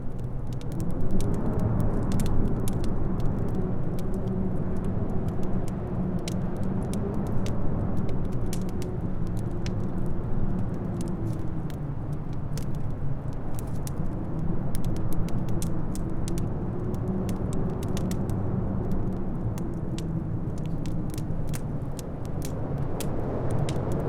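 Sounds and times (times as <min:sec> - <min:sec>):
low wind rumble with howl: 0:00.0 - 0:24.0
wood fire crackling and popping: 0:00.0 - 0:24.0.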